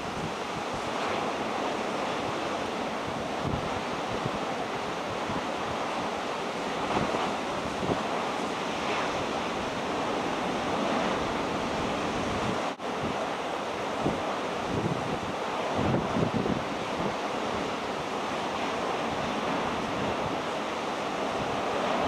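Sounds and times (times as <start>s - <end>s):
wind buffeting microphone: 0.0s - 13.3s, 14.0s - 22.0s
rough sea breaking: 0.0s - 22.0s.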